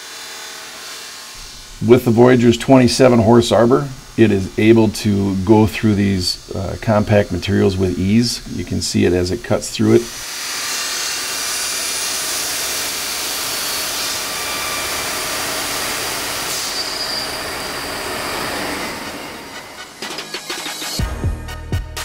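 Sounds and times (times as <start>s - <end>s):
saw grinding through porcelain: 0.0s - 20.0s.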